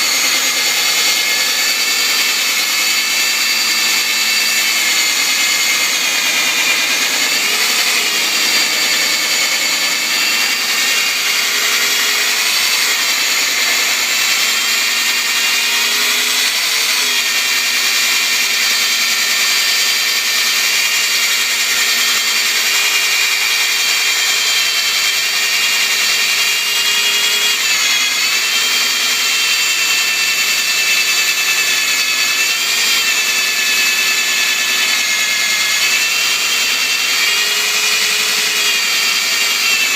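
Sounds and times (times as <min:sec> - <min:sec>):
metal drilling machine whine: 0:00.0 - 0:39.9.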